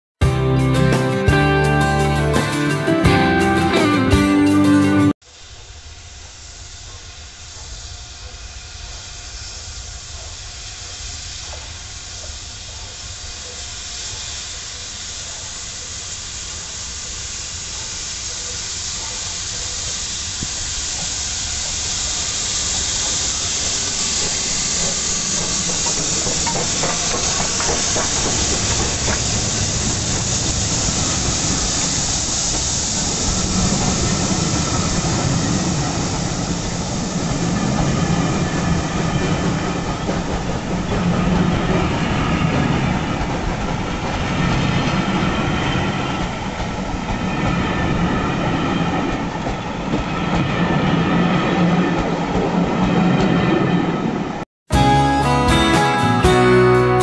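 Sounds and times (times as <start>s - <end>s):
steam hissing: 5.2s - 51.4s
train rumble: 5.2s - 57.0s
train wheels clicking: 6.2s - 54.2s.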